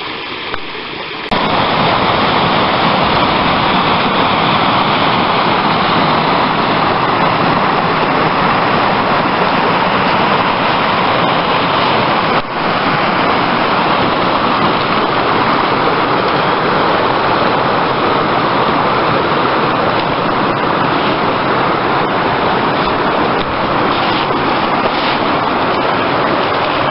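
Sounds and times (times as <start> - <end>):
stream rushing over rocks: 0.0 - 26.9.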